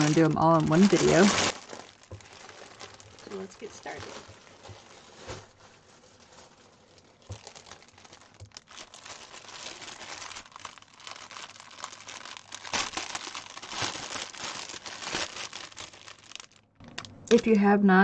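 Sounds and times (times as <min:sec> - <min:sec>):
plastic packaging rustling: 0:00.0 - 0:17.5.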